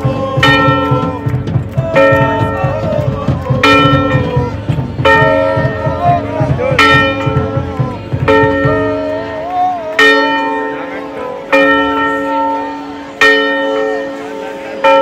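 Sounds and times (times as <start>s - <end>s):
large metal bell ringing: 0.0s - 15.0s.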